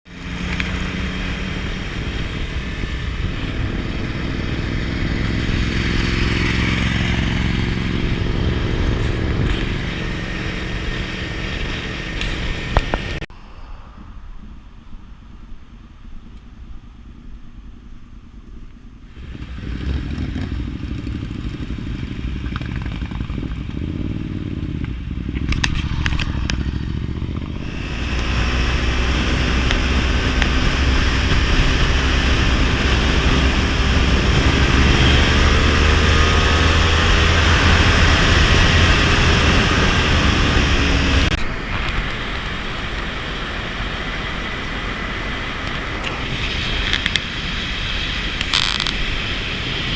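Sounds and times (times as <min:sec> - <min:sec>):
motorcycle engines passing: 0:00.1 - 0:13.3, 0:14.4 - 0:49.9.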